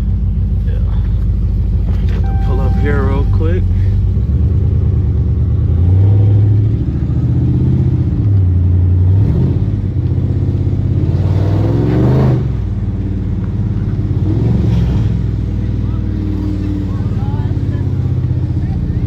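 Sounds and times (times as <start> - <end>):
car engine pulling away: 0.0 - 19.0.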